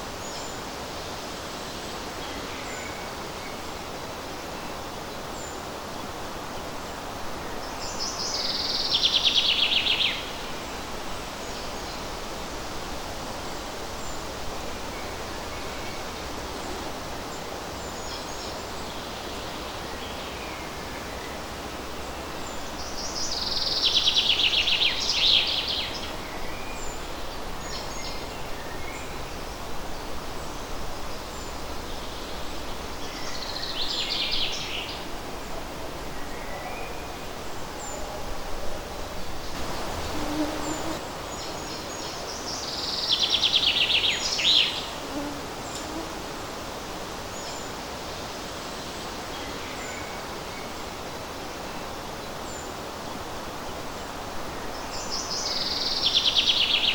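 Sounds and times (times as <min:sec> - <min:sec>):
breeze rustling leaves: 0:00.0 - 0:56.9.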